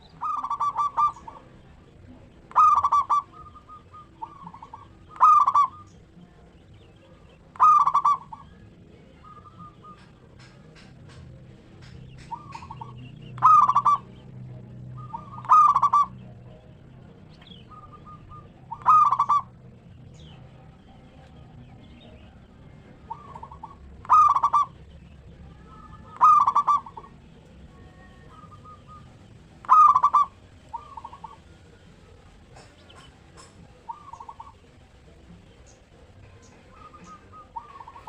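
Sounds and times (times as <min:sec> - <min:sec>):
doves cooing: 0:00.0 - 0:38.0.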